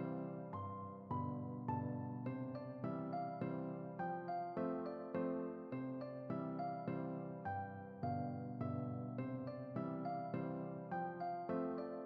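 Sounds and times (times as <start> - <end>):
gentle keyboard notes: 0.0 - 12.0.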